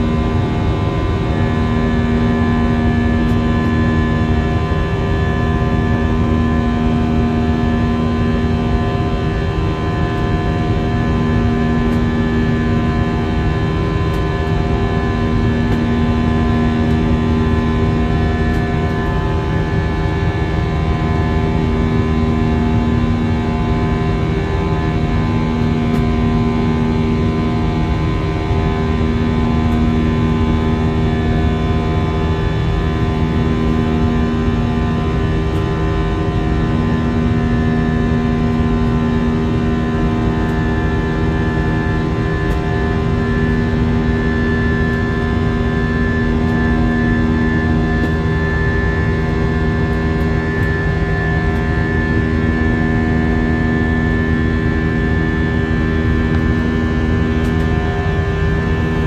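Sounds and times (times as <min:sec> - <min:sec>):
jet engine rumble in cabin: 0:00.0 - 0:59.0
low hum: 0:00.0 - 0:59.0.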